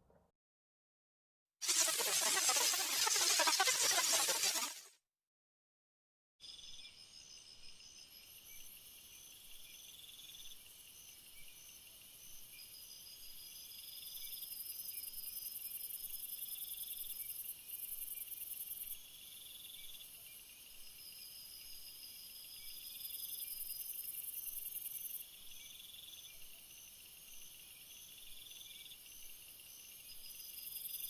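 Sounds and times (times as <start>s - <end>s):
insects chirping and trilling: 1.6s - 4.8s, 6.4s - 31.0s.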